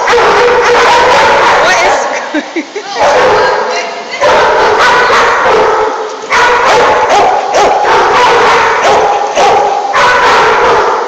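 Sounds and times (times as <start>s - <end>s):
dogs barking loudly: 0.0s - 11.0s.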